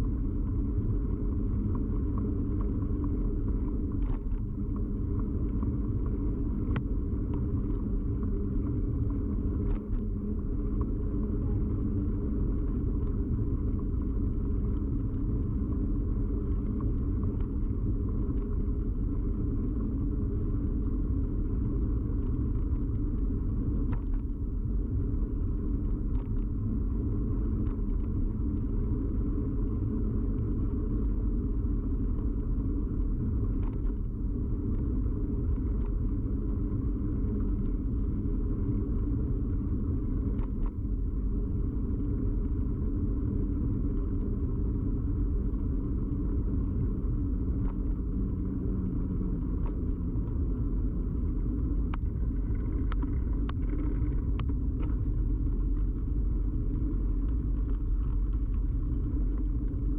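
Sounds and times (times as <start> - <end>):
bicycle tyres rumbling: 0.0 - 59.9.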